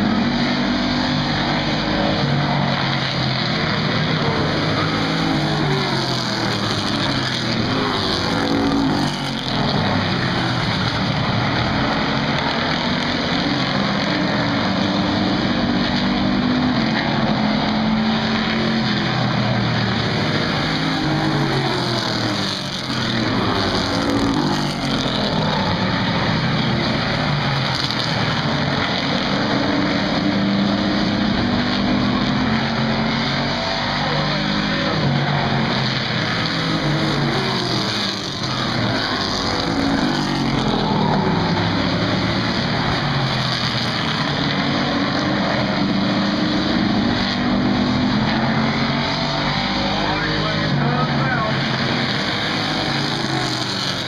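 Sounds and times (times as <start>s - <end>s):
race car engines droning: 0.0s - 54.0s.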